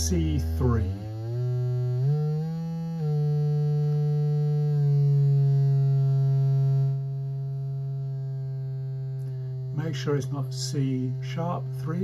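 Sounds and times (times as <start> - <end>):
buzzy square wave synth tone: 0.0 - 12.0.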